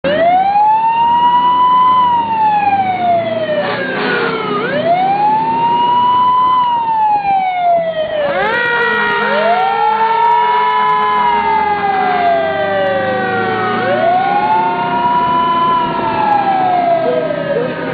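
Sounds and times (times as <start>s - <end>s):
emergency vehicle siren wailing: 0.0s - 17.9s.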